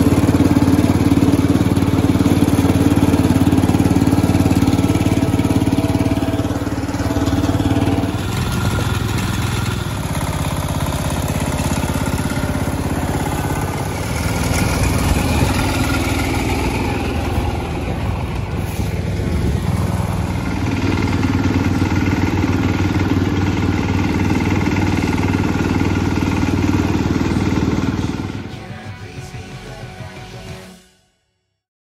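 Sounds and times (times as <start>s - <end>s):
tractor engine running: 0.0s - 30.4s.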